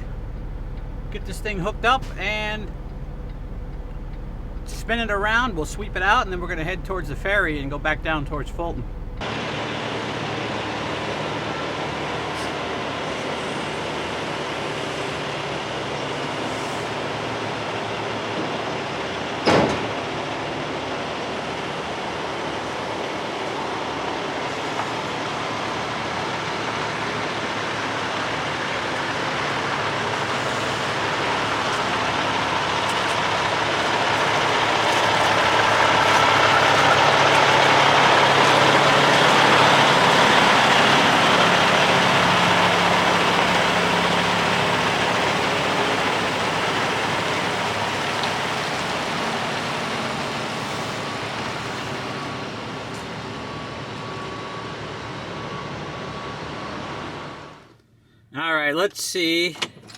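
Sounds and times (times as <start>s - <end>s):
heavy vehicle running: 0.0s - 57.8s.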